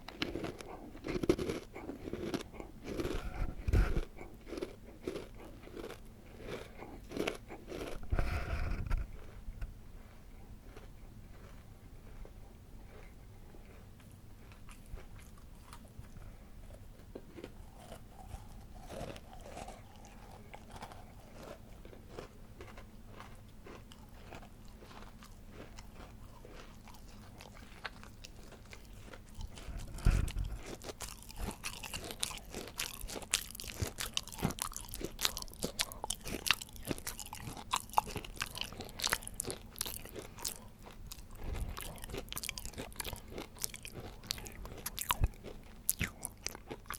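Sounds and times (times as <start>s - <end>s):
person chewing cake: 0.0s - 46.9s.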